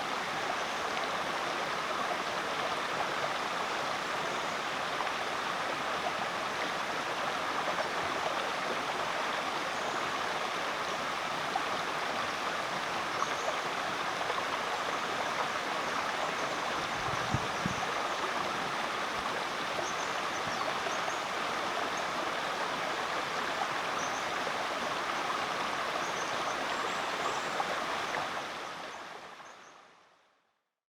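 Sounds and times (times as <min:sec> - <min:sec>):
creek water flowing: 0:00.0 - 0:29.9.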